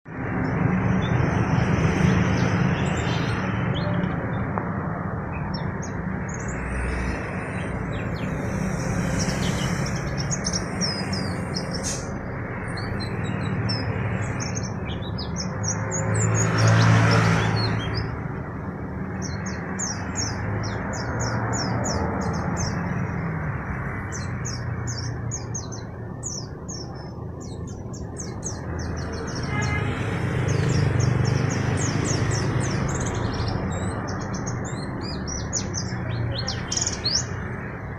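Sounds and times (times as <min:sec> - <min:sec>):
birds chirping and twittering: 0:00.1 - 0:37.9.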